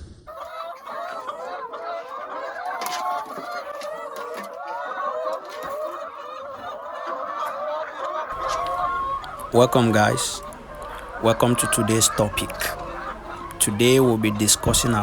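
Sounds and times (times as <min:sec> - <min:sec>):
chickens clucking: 0:00.3 - 0:15.0.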